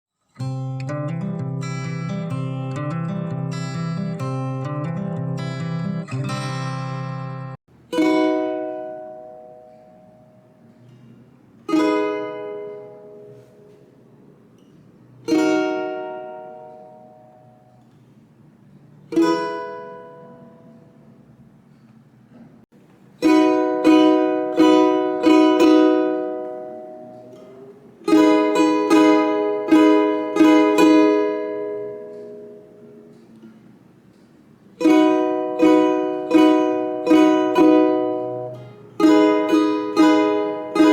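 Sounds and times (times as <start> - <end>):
ukulele strumming: 0.4 - 17.8, 19.1 - 21.2, 22.8 - 40.9.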